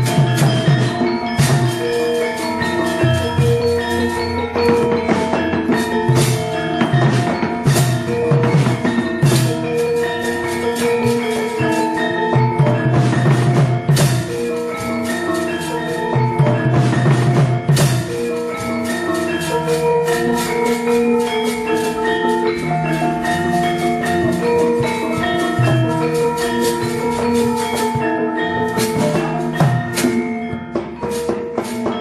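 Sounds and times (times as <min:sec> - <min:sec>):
bronze metallophones ringing melody: 0:00.0 - 0:32.0.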